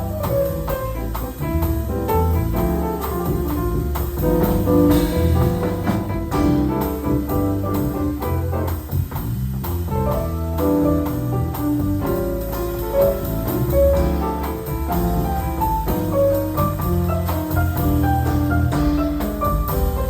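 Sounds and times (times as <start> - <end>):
jazz piano: 0.0 - 20.0
light drums: 0.0 - 20.0
walking bass line: 0.0 - 20.0.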